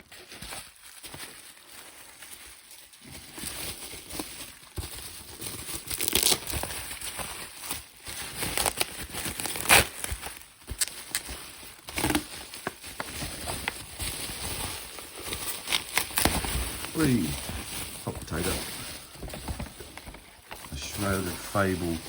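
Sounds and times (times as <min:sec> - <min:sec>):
packaging crinkling and tearing: 0:00.0 - 0:22.0.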